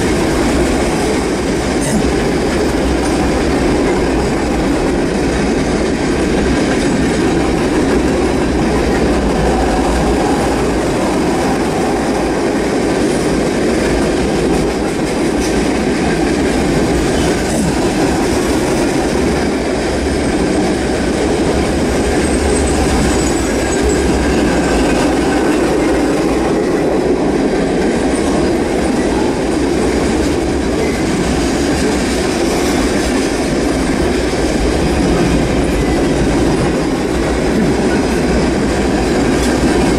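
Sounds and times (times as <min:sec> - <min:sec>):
train wheels on rail: 0:00.0 - 0:39.9.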